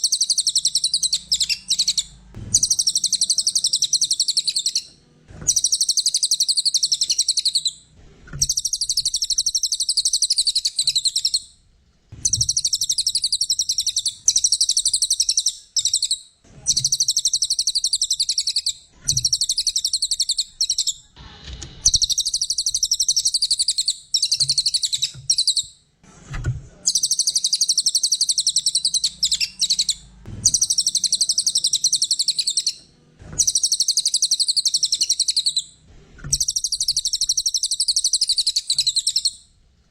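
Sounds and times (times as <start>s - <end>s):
songbird trilling chirps: 0.0s - 4.9s, 5.5s - 7.8s, 8.4s - 11.5s, 12.2s - 21.0s, 21.9s - 25.7s, 26.9s - 32.8s, 33.4s - 39.4s.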